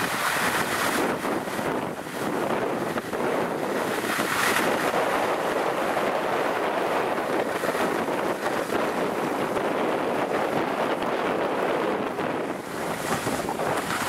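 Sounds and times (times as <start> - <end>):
skis sliding on snow: 0.0 - 14.0
wind rushing over microphone: 0.0 - 14.0.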